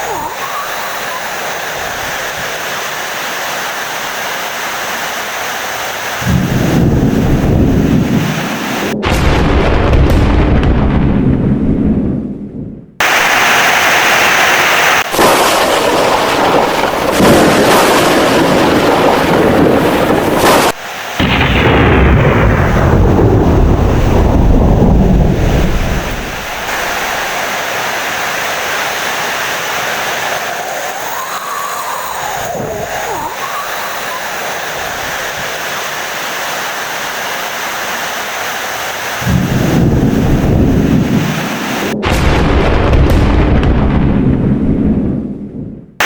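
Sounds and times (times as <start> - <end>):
heavy rain: 0.0 - 10.6, 13.0 - 44.7
thunder rumbling: 6.1 - 36.5, 39.0 - 46.0.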